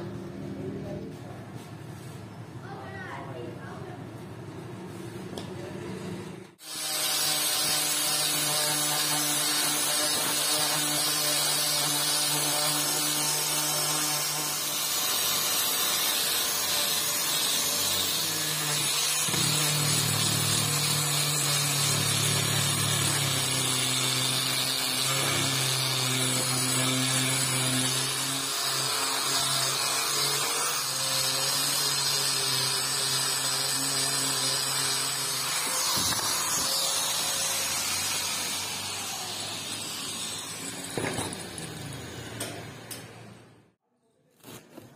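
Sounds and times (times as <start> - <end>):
angle grinder grinding steel: 6.6 - 43.4.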